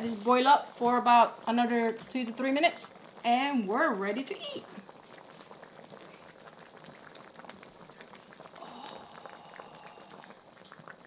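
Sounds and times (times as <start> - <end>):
thick sauce bubbling in a pan: 0.0 - 11.0.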